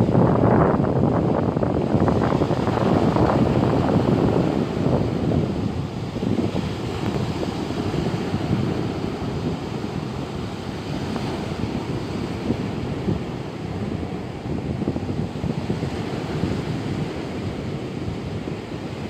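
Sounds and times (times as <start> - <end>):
surf washing onto beach: 0.0 - 19.0
wind buffeting microphone: 0.0 - 19.0.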